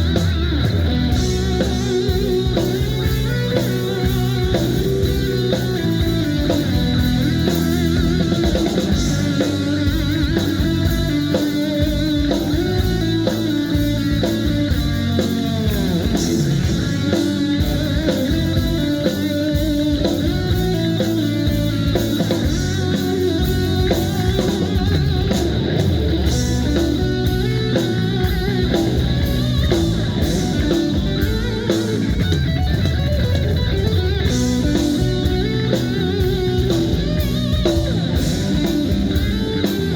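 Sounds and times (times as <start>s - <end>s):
bent guitar notes: 0.0s - 39.9s
rock band playing: 0.0s - 39.9s.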